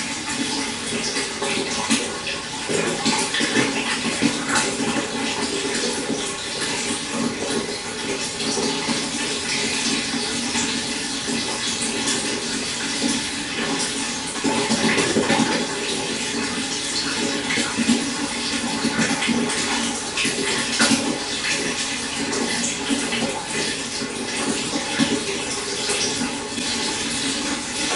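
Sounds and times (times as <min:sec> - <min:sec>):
stream water flowing: 0:00.0 - 0:27.9.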